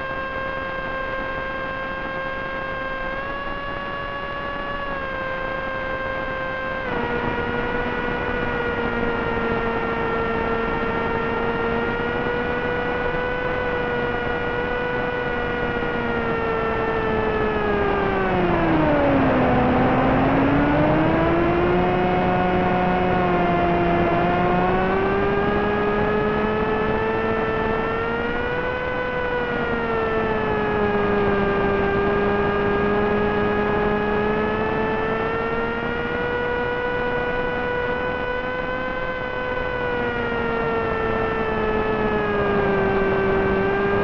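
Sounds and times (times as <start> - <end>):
propeller motor whining: 0.0 - 44.0.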